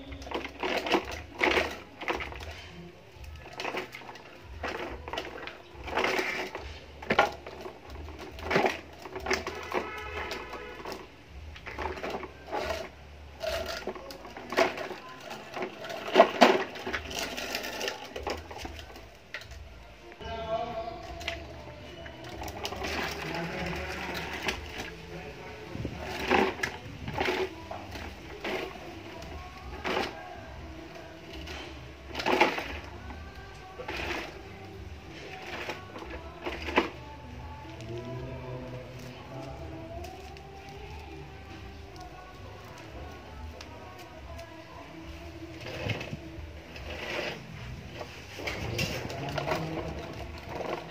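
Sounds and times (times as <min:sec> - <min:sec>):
plastic toys clattering on paving: 0:00.0 - 0:19.7, 0:21.0 - 0:50.9.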